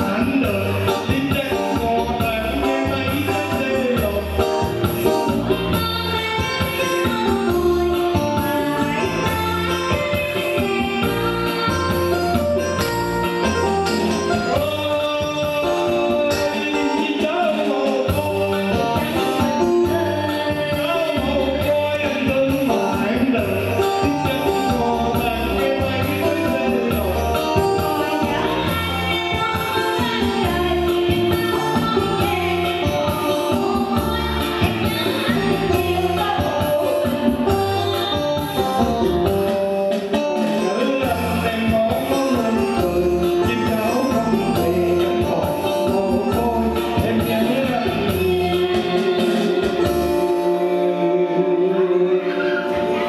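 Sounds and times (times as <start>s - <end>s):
man and woman singing duet: 0.0s - 12.4s, 13.4s - 39.6s, 40.3s - 53.0s
electronic keyboard with beat: 0.0s - 51.4s.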